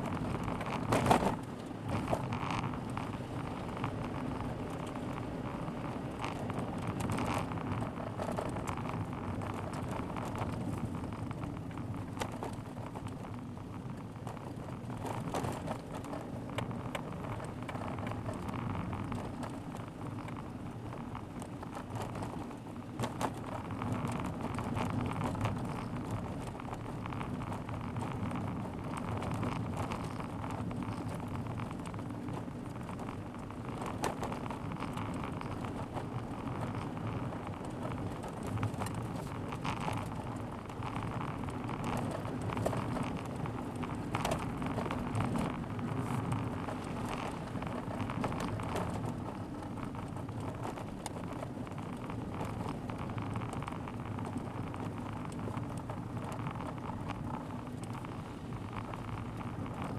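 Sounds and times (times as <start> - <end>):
car road and engine noise: 0.0 - 59.9
small irregular ticks and clicks: 0.0 - 59.9.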